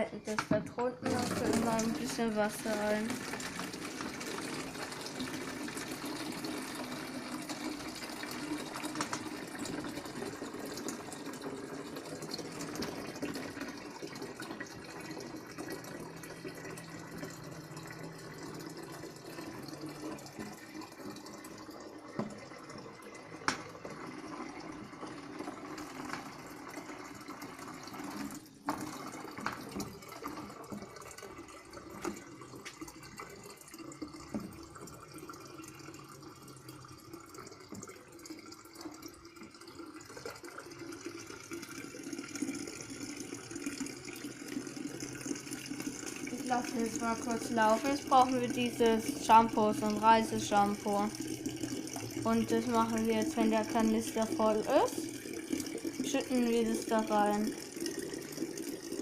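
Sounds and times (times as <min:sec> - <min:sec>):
tap water filling plastic canister: 0:00.0 - 0:59.0.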